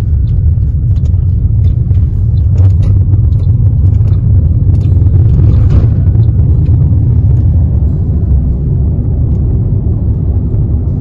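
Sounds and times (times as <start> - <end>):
car road noise rumble: 0.0 - 11.0.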